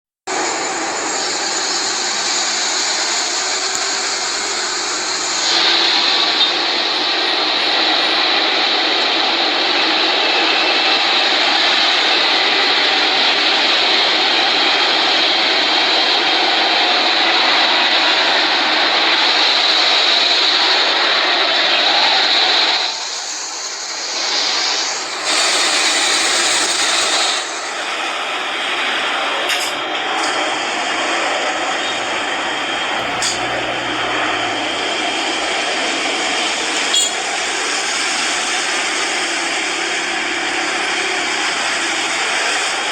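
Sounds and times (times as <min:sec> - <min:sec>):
jet engines running: 0:00.3 - 0:42.9.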